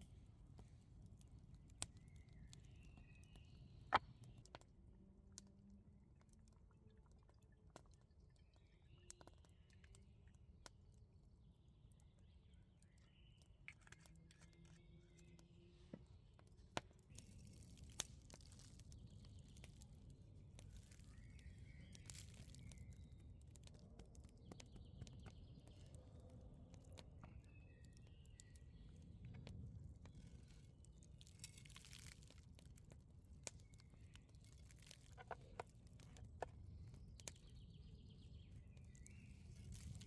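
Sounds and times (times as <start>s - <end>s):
small clicks and crackles: 0.0s - 40.0s.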